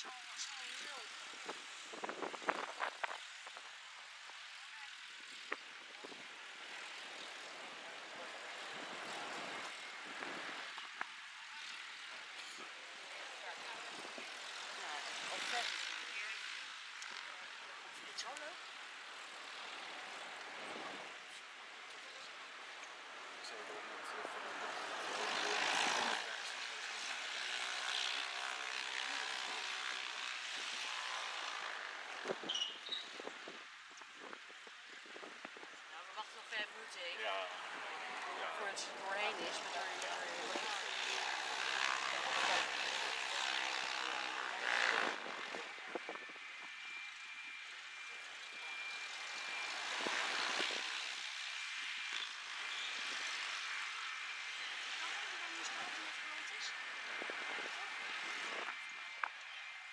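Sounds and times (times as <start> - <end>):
jet engines rushing with whine: 0.6 - 59.9.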